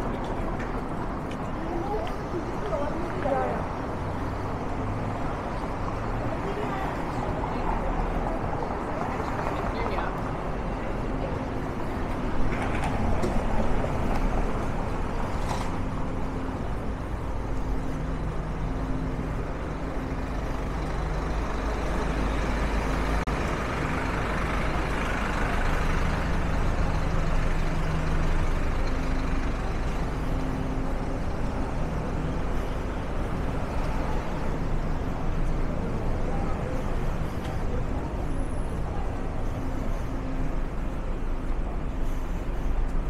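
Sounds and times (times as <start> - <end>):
heavy vehicle engine running: 0.0 - 43.0
street traffic noise: 0.0 - 43.0.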